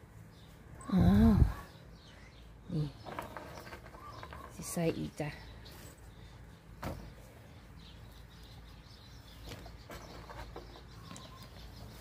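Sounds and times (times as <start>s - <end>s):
faint bird chirps: 0.4s - 12.0s.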